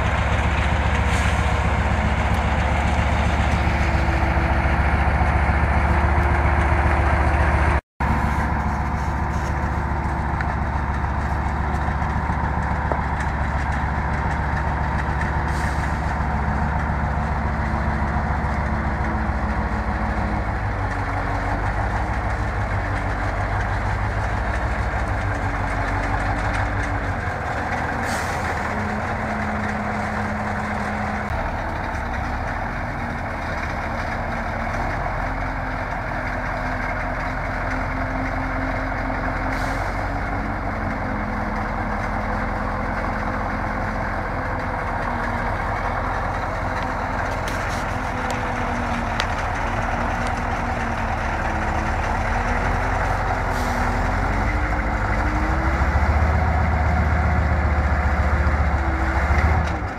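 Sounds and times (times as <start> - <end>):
truck diesel engine labouring: 0.0 - 59.9.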